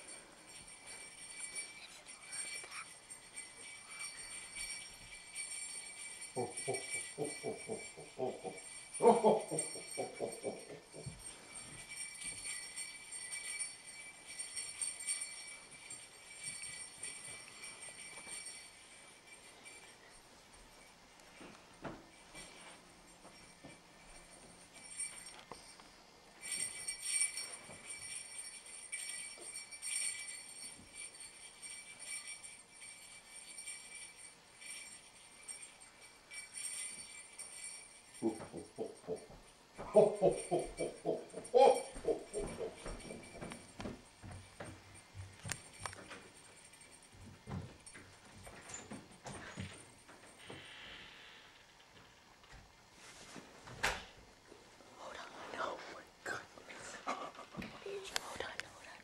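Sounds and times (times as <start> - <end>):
sleigh bells jingling: 0.0 - 51.6.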